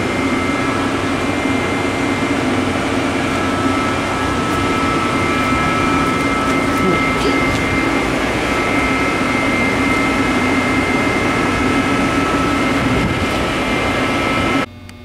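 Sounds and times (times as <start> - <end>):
cooling fans rushing air: 0.0 - 15.0.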